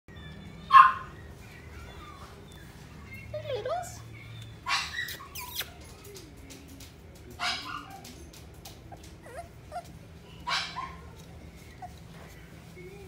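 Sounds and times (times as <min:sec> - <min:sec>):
puppies yipping: 0:00.1 - 0:03.3, 0:04.4 - 0:06.1, 0:07.4 - 0:13.0
puppies whimpering and squeaking: 0:00.1 - 0:06.3, 0:07.4 - 0:13.0.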